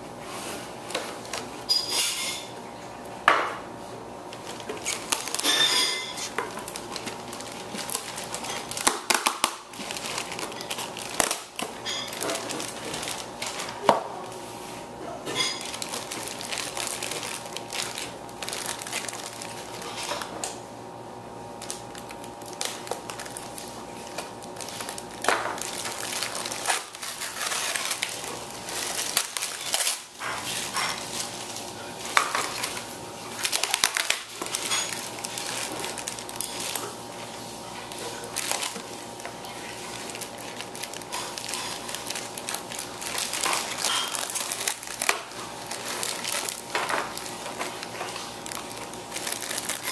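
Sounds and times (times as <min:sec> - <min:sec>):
packaging crinkling: 0:04.3 - 0:14.6, 0:15.3 - 0:20.6, 0:21.4 - 0:49.9.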